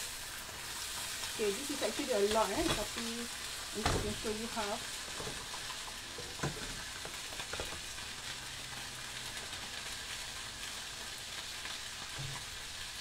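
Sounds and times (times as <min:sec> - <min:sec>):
noodles sizzling in a pan: 0:00.0 - 0:13.0.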